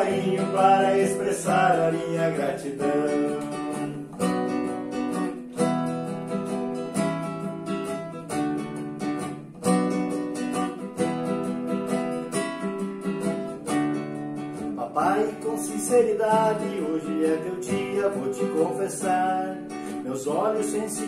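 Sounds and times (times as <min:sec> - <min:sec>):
classical guitar strumming: 0:00.0 - 0:21.0.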